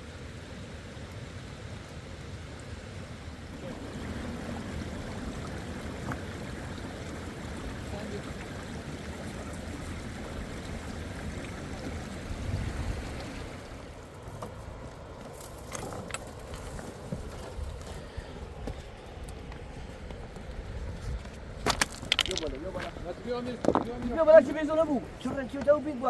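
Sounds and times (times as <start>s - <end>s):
mountain river rushing: 0.0s - 20.7s, 21.6s - 26.0s.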